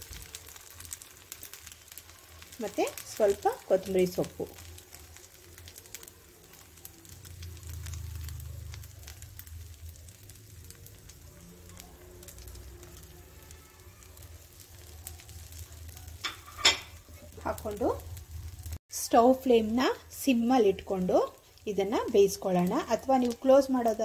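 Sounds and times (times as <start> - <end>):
batter sizzling on hot griddle: 0.0 - 24.0.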